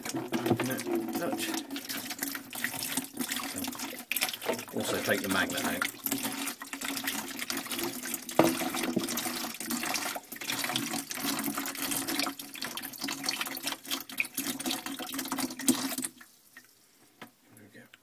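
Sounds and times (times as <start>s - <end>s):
water pouring into a bucket: 0.0s - 16.9s.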